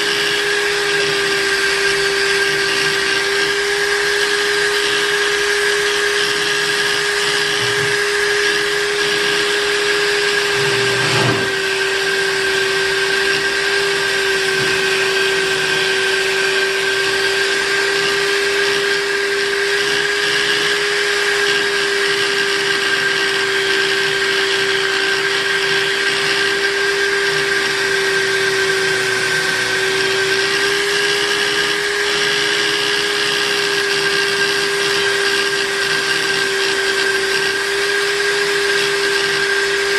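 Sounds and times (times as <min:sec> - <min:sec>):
buffing machine motor whine: 0:00.0 - 0:39.9.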